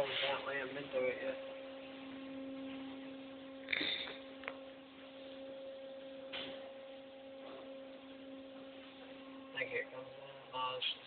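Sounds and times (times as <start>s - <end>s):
car wash equipment humming: 0.0s - 11.0s.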